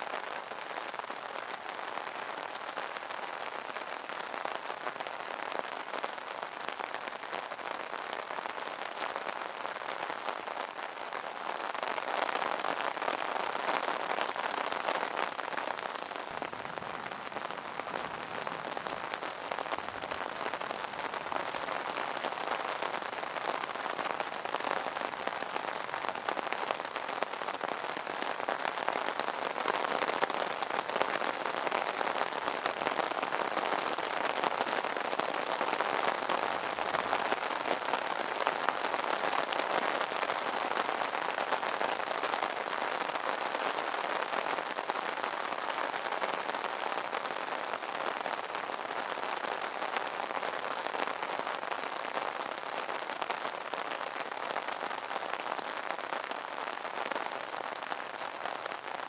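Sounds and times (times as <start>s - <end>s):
rain pattering on umbrella: 0.0s - 59.0s.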